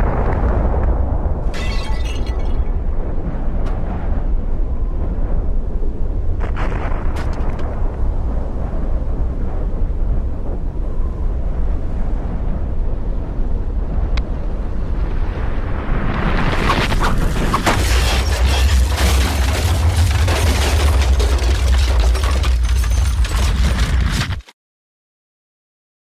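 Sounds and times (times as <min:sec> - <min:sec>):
deep volcanic rumble with crackles: 0:00.0 - 0:24.5.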